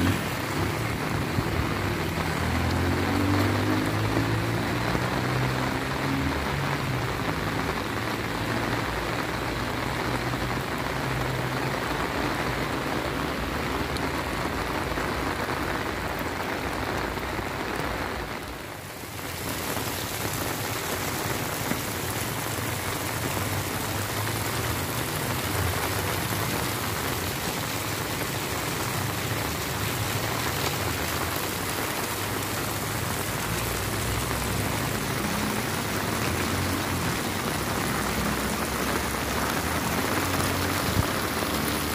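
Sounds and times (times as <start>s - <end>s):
heavy rain on pavement: 0.0s - 41.9s.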